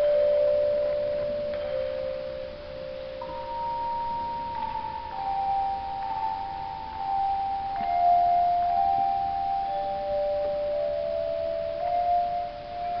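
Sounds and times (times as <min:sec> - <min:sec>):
handbells ringing a slow melody: 0:00.0 - 0:13.0.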